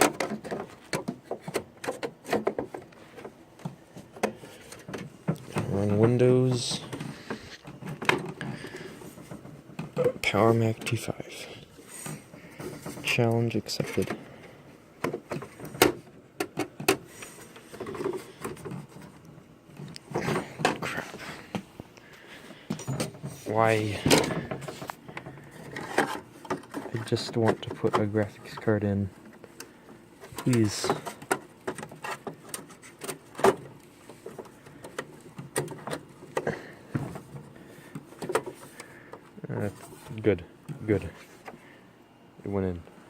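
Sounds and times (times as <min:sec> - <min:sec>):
computer parts clicking and knocking: 0:00.0 - 0:11.3, 0:12.0 - 0:21.6, 0:22.7 - 0:39.3.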